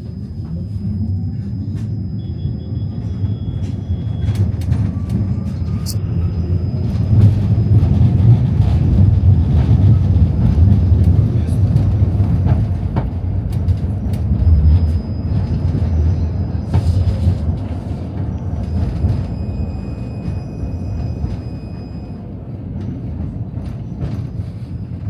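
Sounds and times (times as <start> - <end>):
tram rumbling on rails: 0.0 - 25.0.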